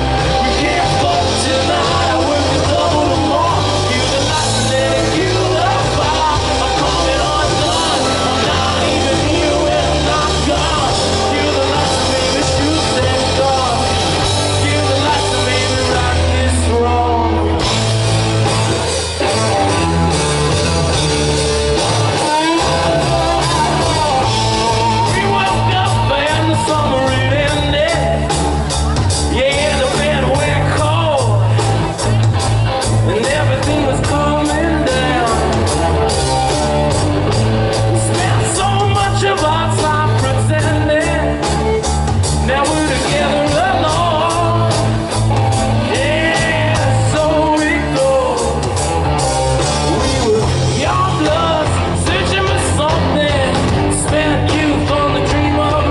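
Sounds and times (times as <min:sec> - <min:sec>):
lead vocal singing: 0:00.0 - 0:17.8, 0:21.8 - 0:55.9
drum kit: 0:00.0 - 0:55.9
electric guitars: 0:00.0 - 0:55.9
rock band playing live: 0:00.0 - 0:55.9.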